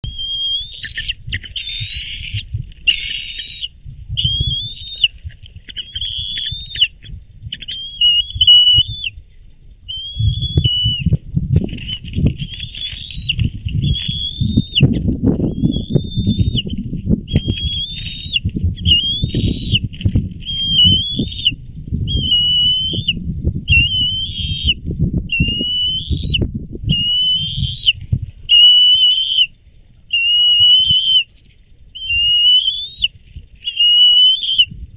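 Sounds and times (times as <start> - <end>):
eagles whistled calls: 0.0 - 9.2, 9.9 - 11.2, 11.8 - 29.5, 30.1 - 31.3, 32.0 - 34.7
low rumbling noise: 0.0 - 28.6, 34.6 - 34.9.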